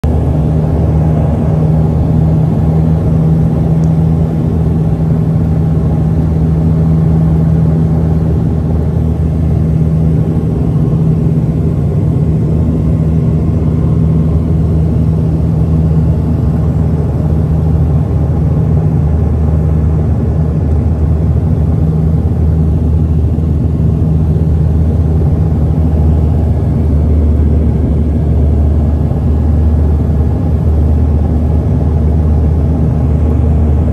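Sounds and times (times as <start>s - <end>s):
airliner engine drone in cabin: 0.0s - 33.9s.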